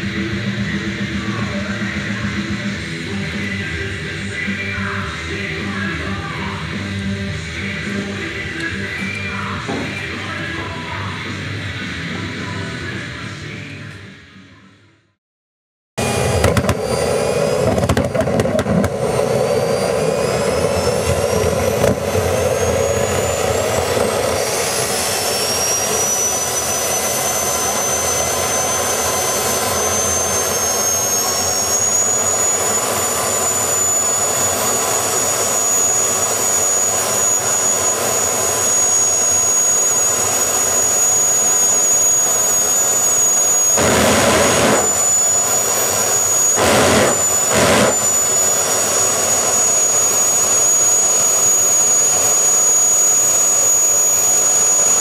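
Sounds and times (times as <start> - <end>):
jet engine running: 0.0 - 13.5, 16.0 - 55.0
high turbine whine: 0.0 - 14.5, 16.0 - 55.0.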